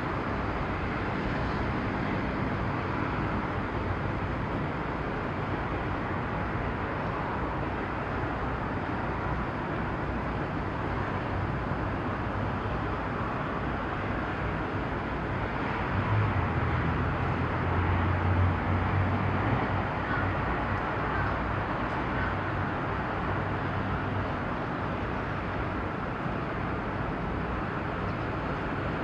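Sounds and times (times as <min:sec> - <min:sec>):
steady wash of noise: 0:00.0 - 0:29.0.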